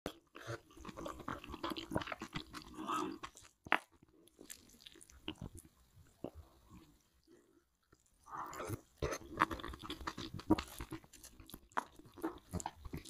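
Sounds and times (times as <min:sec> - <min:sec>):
person chewing noodles: 0:00.1 - 0:13.0.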